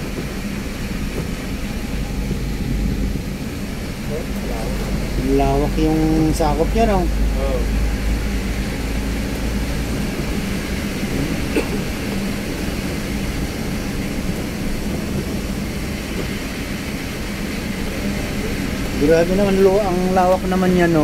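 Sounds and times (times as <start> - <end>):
low hum: 0.0 - 20.7
bus engine and road noise: 0.0 - 21.0.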